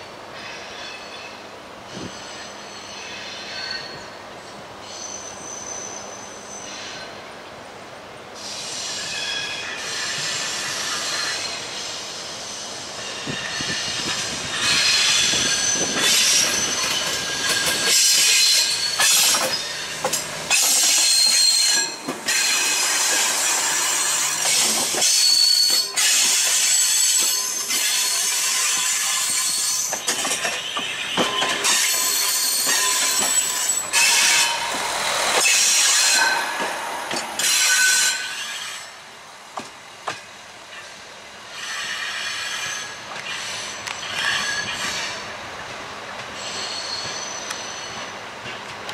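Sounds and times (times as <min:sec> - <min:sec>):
train wheel flanges squealing: 0:00.0 - 0:07.3, 0:08.4 - 0:39.0, 0:40.1 - 0:45.4, 0:46.2 - 0:48.7
train wheels clattering on rails: 0:08.4 - 0:12.0, 0:13.0 - 0:48.9.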